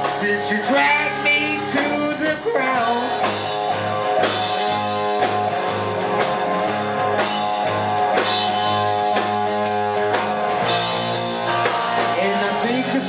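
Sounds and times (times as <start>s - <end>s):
drum kit beat: 0.0s - 13.0s
guitar: 0.0s - 13.0s
rock band playing: 0.0s - 13.0s.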